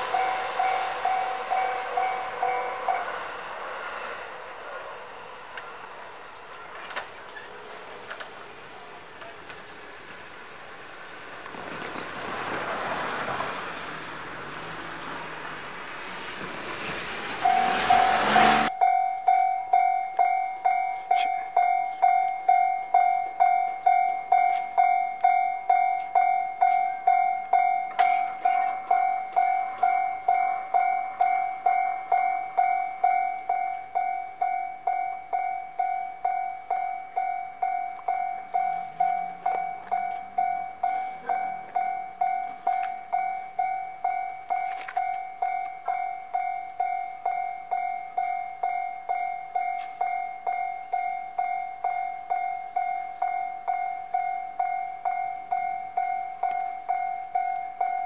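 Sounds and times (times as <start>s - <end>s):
level-crossing warning bell ringing: 0.0s - 9.5s, 17.3s - 58.0s.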